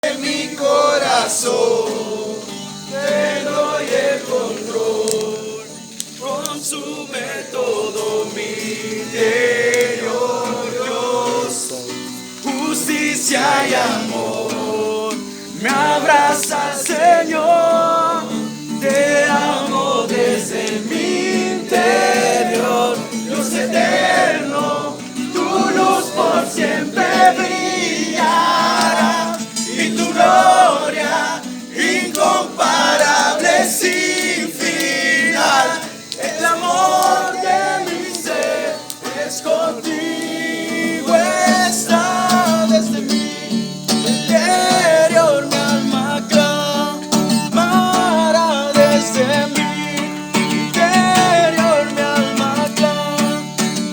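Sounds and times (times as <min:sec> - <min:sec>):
acoustic guitar: 0:00.0 - 0:53.9
voices singing: 0:00.0 - 0:53.9.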